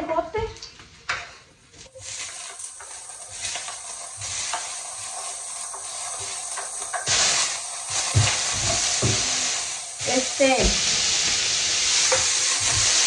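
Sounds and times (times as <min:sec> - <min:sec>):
green beans sizzling in a pan: 0:01.8 - 0:13.0.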